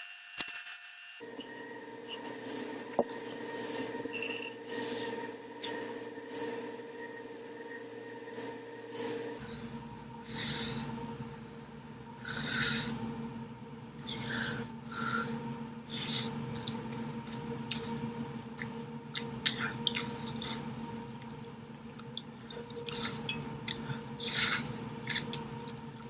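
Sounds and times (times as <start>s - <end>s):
steady low hum: 1.2s - 26.0s.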